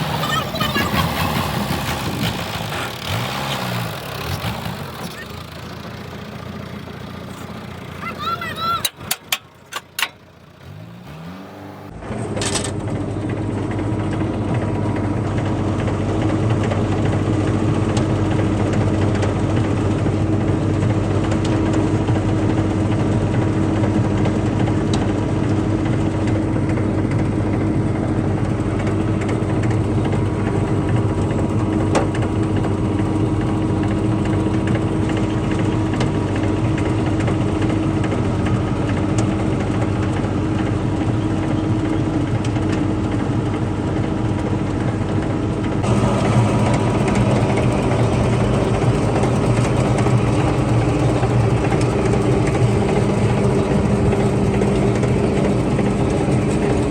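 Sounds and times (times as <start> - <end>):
engine revving up and running: 0.0 - 56.9.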